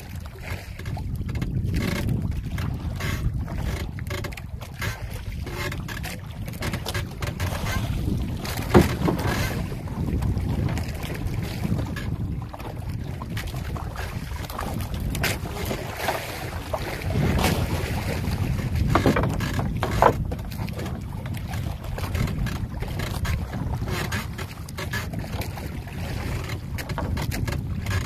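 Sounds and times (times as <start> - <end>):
knocks and splashes: 0.0 - 28.0
water sloshing against boat: 0.0 - 28.0
wind buffeting microphone: 0.0 - 28.0.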